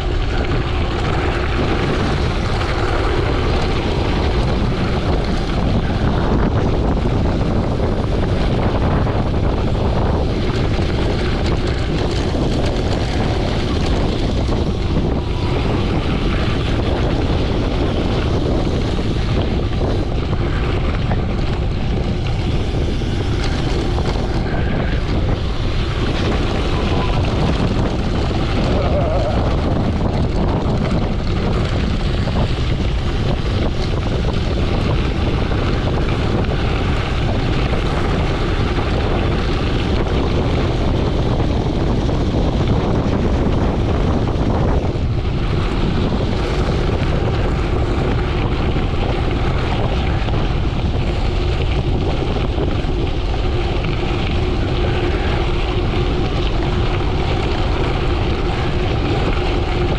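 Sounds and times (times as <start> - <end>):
tyres rumbling over gravel: 0.0 - 59.9
wind rush on microphone: 0.0 - 59.9.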